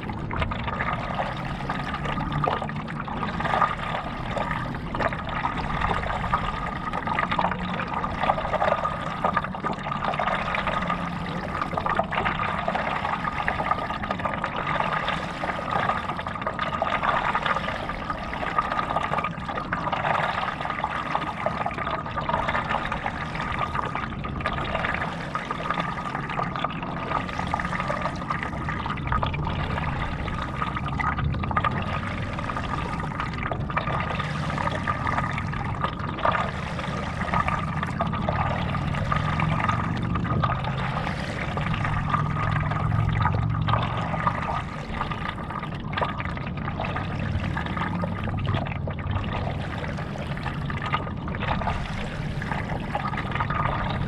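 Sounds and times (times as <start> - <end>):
paddle splashing water: 0.0 - 54.0.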